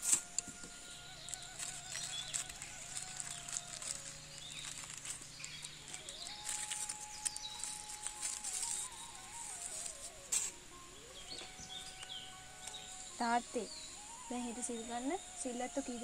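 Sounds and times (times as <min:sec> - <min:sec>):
paper wrappers crinkling: 0:00.0 - 0:13.2
birds chirping: 0:00.0 - 0:16.0
soft slow background music: 0:00.0 - 0:16.0.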